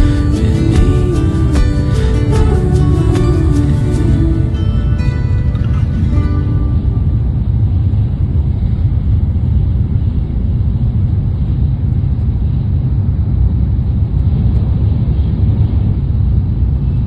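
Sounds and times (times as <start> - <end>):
train interior rumble and rushing: 0.0 - 17.0.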